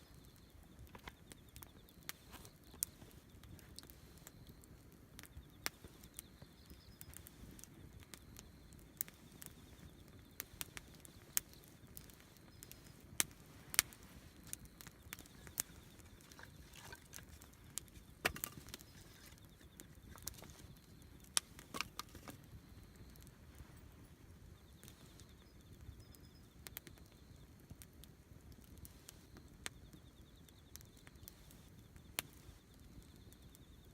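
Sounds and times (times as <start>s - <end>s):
campfire crackling: 0.0s - 33.9s.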